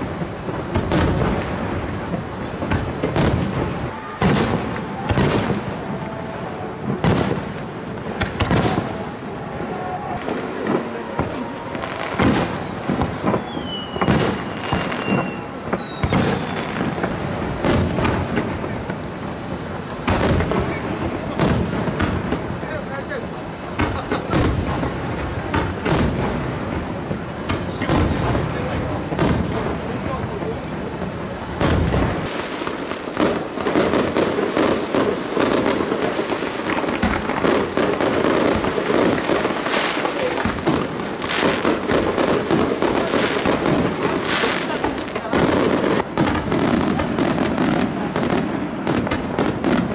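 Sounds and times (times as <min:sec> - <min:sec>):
firework shells bursting: 0:00.0 - 0:49.9.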